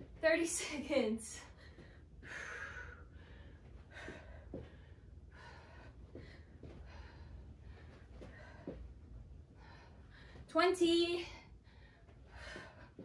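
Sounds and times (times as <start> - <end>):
woman breathing hard: 1.4 - 10.5, 11.4 - 13.0.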